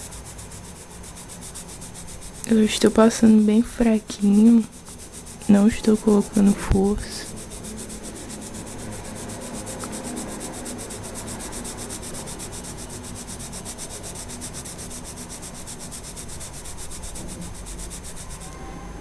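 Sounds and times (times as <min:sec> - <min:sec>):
pencil shading on paper: 0:00.0 - 0:18.5.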